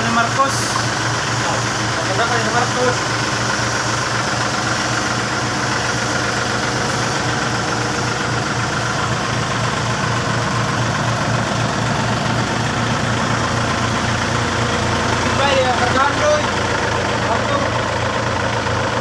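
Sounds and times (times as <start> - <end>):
backhoe engine idling: 0.0 - 19.0.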